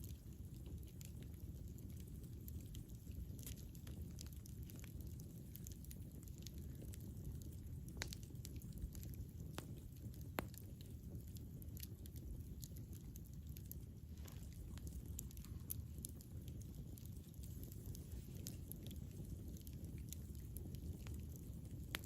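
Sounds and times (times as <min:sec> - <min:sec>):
burning wood crackling and popping: 0:00.0 - 0:22.0
campfire flames rumbling: 0:00.0 - 0:22.0.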